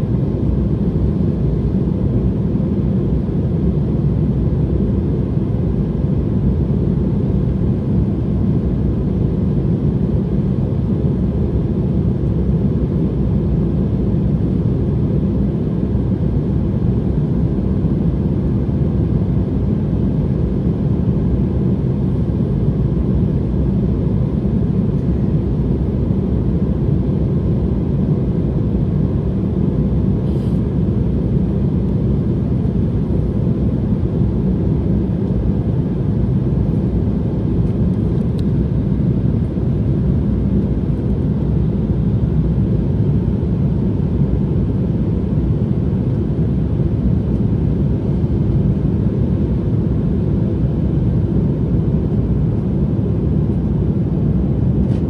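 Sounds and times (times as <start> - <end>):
jet engines droning: 0.0 - 55.0
air rushing along fuselage: 7.2 - 55.0.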